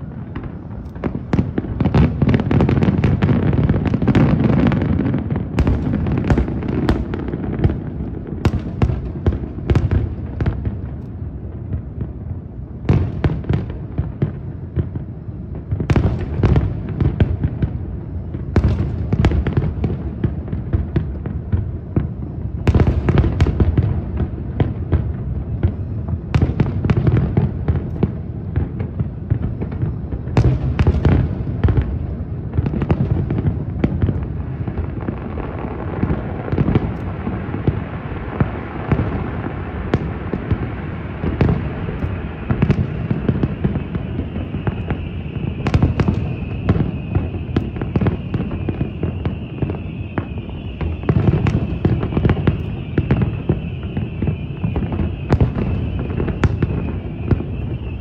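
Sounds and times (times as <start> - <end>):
fireworks sharp cracks: 0.0 - 58.0.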